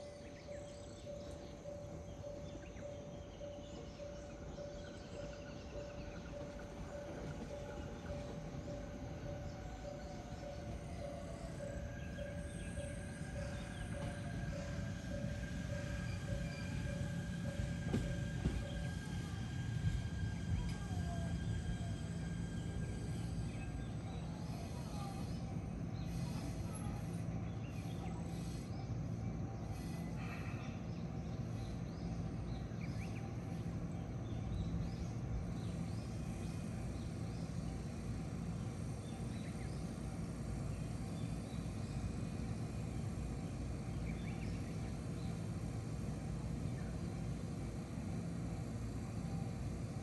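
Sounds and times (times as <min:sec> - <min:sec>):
electric train stopping: 0:00.0 - 0:50.0
low equipment hum: 0:00.0 - 0:50.0.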